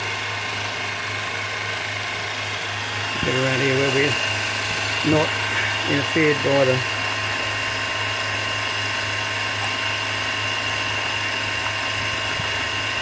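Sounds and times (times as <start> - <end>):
milling machine motor hum: 0.0 - 13.0
steady whining tones: 0.0 - 13.0.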